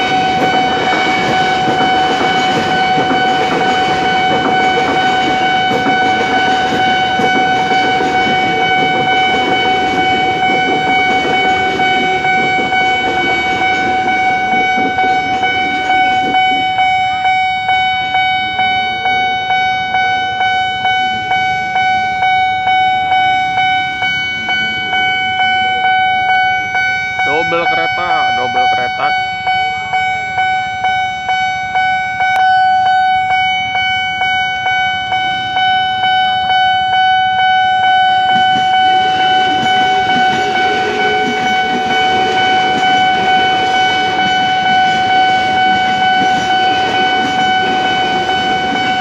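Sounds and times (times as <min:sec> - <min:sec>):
electric train rumbling past: 0:00.0 - 0:49.0
level crossing warning bell: 0:00.0 - 0:49.0.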